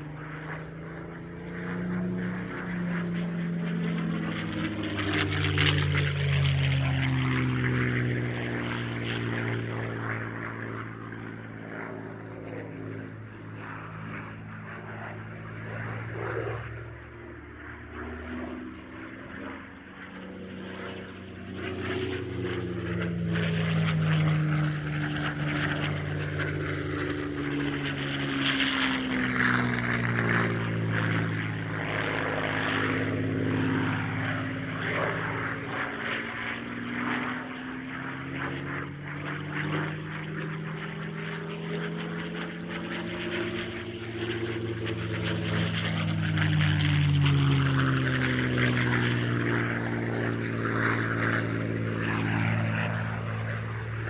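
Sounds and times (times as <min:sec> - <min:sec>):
propeller plane engines droning: 0:00.0 - 0:54.0.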